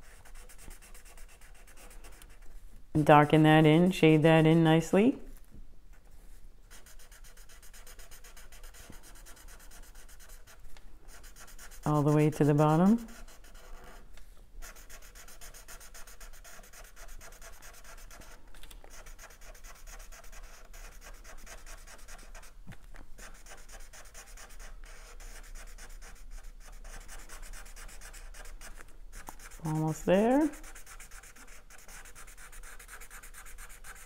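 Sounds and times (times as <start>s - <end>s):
marker scratching on paper: 0.0s - 2.5s, 6.7s - 14.0s, 14.6s - 22.6s, 23.2s - 34.0s.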